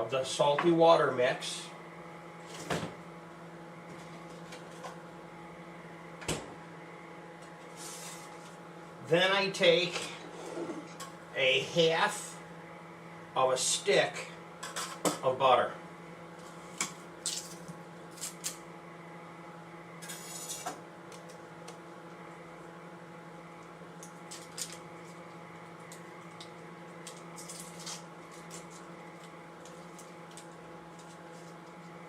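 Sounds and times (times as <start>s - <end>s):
kitchen appliance humming: 0.0s - 32.0s.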